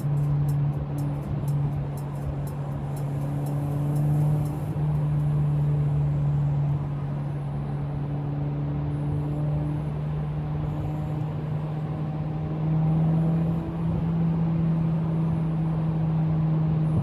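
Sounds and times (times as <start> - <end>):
car engine droning in cabin: 0.0 - 17.0
road noise: 0.0 - 17.0.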